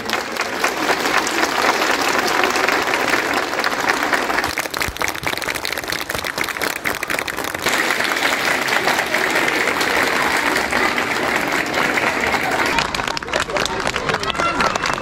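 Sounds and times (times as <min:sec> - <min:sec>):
crowd applauding: 0:00.0 - 0:15.0
crowd noise: 0:00.0 - 0:15.0.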